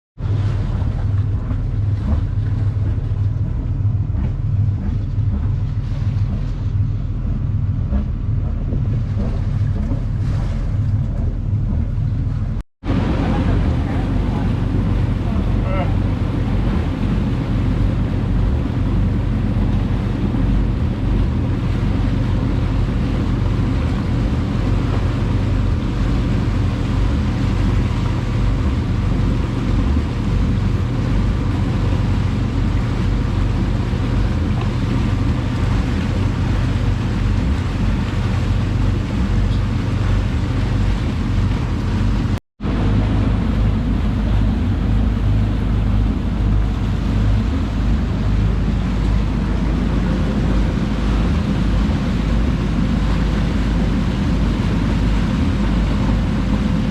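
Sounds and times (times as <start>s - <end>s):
boat engine droning: 0.2s - 56.9s
water noise: 0.2s - 56.9s
wind noise: 0.2s - 56.9s.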